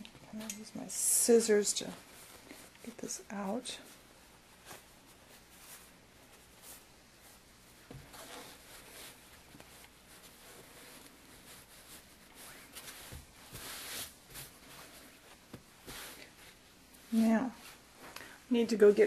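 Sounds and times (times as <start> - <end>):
fabric rustling and rubbing: 0.0 - 19.0.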